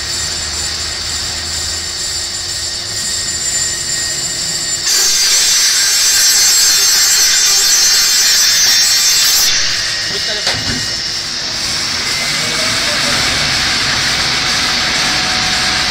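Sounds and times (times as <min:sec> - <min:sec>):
saw blade cutting: 0:00.0 - 0:15.9
saw machine humming and whining: 0:00.0 - 0:15.9.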